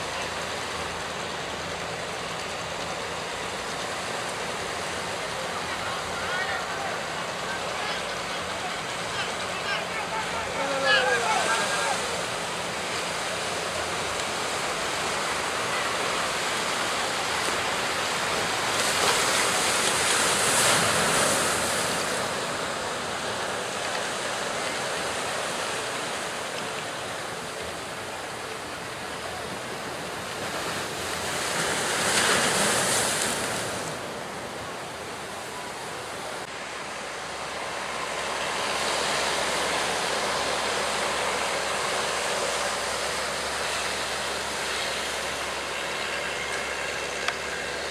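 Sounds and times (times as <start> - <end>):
sea waves breaking: 0.0 - 47.9.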